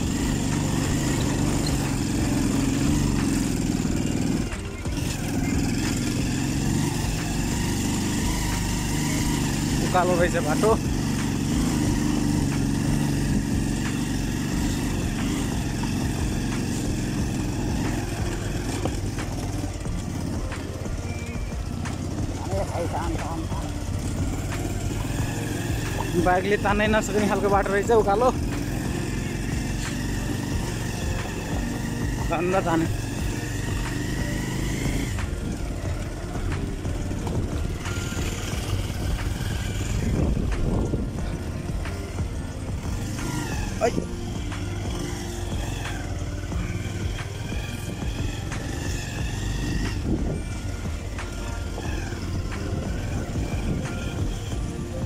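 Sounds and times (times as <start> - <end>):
motorcycle engine straining: 0.0 - 55.0.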